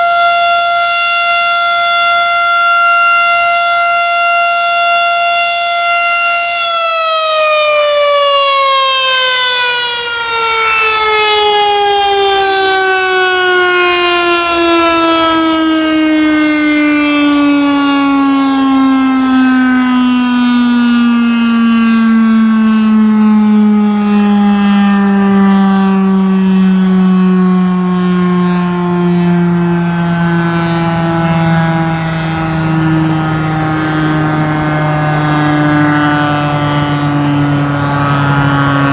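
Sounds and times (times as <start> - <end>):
warning siren winding down: 0.0 - 38.9.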